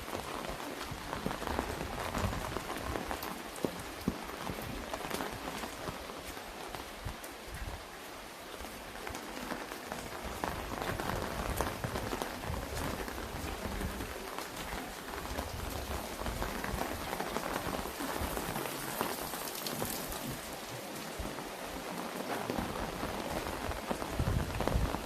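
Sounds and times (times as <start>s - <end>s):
hiss of rainfall: 0.0s - 25.0s
rain pattering on umbrella: 0.0s - 25.0s.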